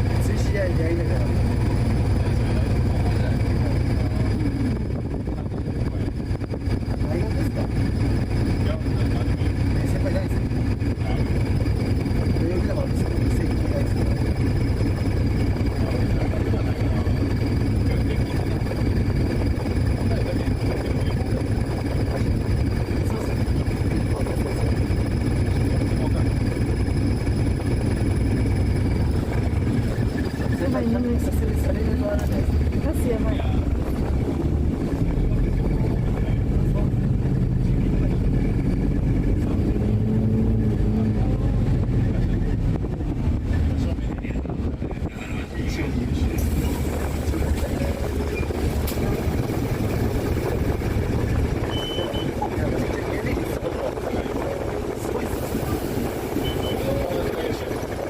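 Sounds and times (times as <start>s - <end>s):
engine low rumble: 0.0s - 58.0s.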